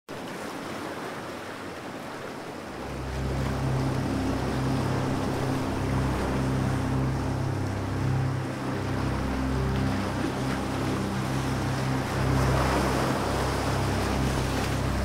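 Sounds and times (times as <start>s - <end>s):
sea waves washing: 0.1s - 15.0s.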